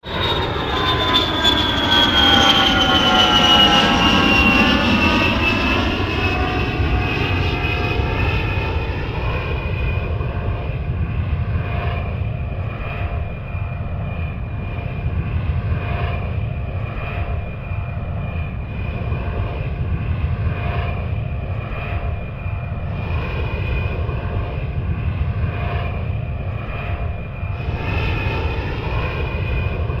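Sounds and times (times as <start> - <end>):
airplane engine whine: 0.0 - 30.0
deep engine rumble: 0.1 - 30.0.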